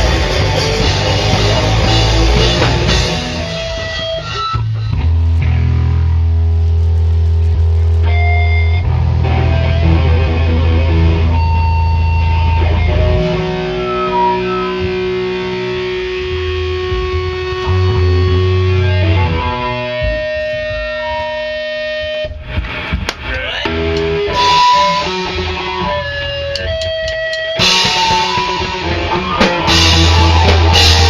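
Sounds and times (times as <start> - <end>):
heavy low bass notes: 0.0 - 31.0
rock music with distorted guitar: 0.0 - 31.0.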